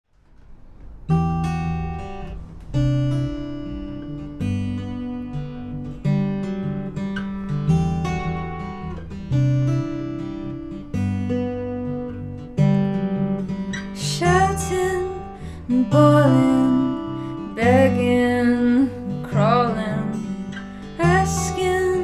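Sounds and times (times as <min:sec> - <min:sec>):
acoustic guitar chords ringing: 0:00.2 - 0:22.0.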